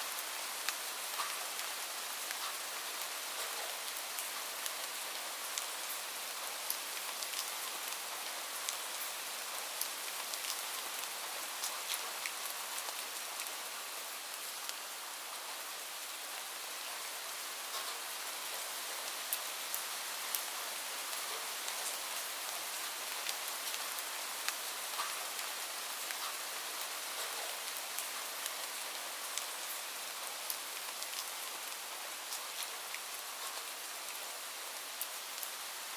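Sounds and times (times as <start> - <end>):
light rain hissing: 0.0 - 35.9
raindrops ticking on surface: 0.1 - 35.9.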